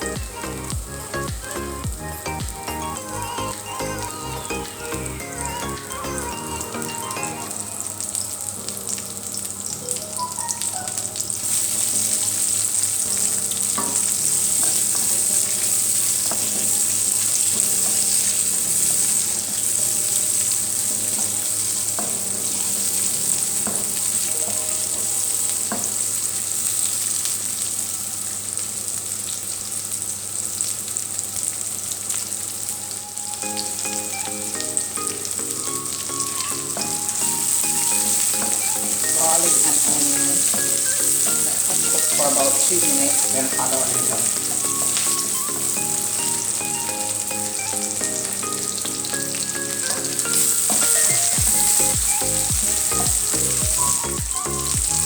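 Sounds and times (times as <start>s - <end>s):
prawns sizzling in hot oil: 0.0s - 55.0s.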